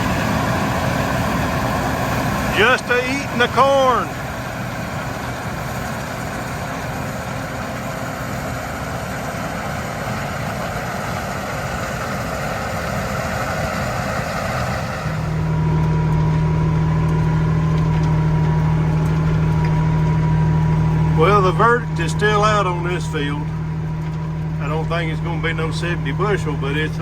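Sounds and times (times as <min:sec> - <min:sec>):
combine harvester running: 0:00.0 - 0:27.0
engine drone with low hum: 0:00.0 - 0:27.0.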